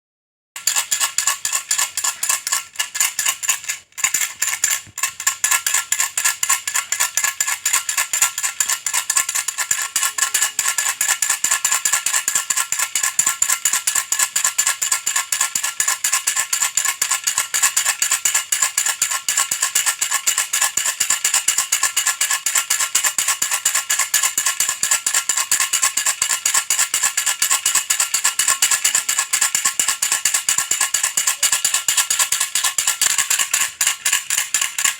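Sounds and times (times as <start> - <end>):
baby rattle shaken rapidly: 0.6 - 34.9.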